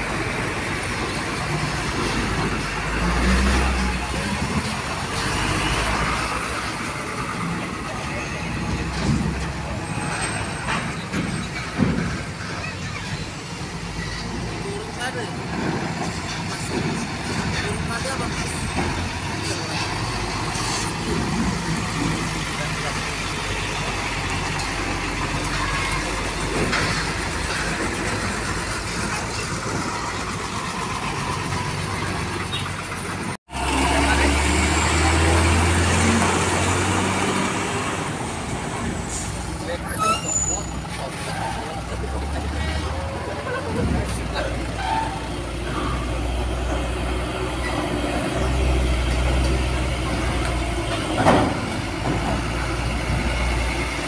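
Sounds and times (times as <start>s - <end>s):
diesel truck driving past: 0.0s - 54.0s
tyre and traffic noise: 0.0s - 54.0s.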